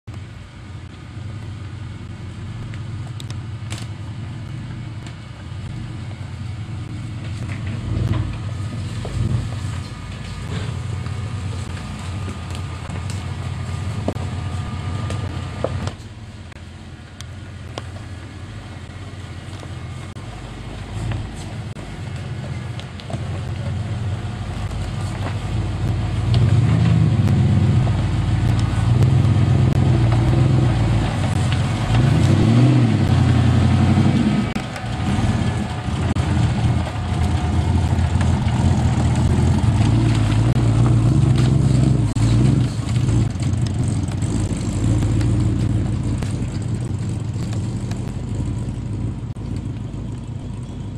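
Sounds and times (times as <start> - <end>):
vehicle engine revving: 0.8 - 50.9.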